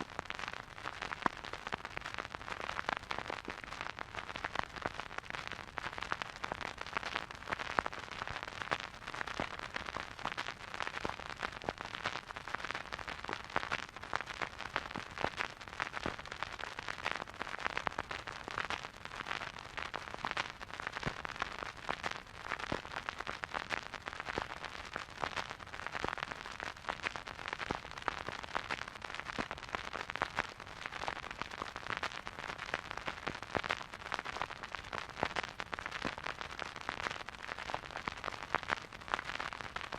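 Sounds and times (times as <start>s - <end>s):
vinyl record crackle: 0.0s - 39.9s.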